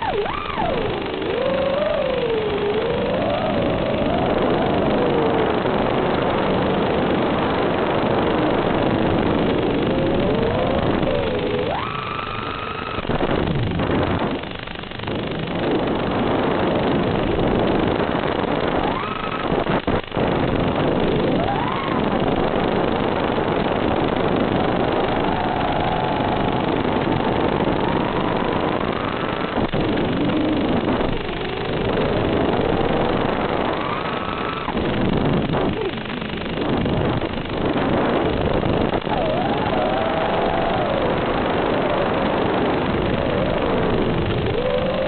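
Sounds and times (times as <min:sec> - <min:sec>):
drone motors whining: 0:00.0 - 0:14.4, 0:17.5 - 0:36.8, 0:37.7 - 0:45.0.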